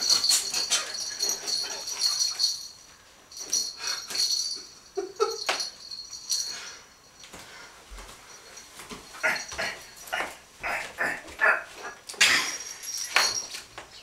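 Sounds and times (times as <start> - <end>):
small bell jingling: 0.0 - 10.4, 12.4 - 14.0.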